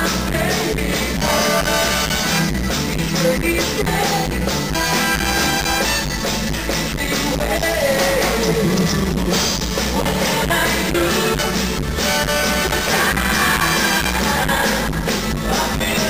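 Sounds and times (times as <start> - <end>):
person singing: 0.0 - 5.7, 6.7 - 16.0
drum kit and congas beat: 0.0 - 16.0
electric bass: 0.0 - 16.0.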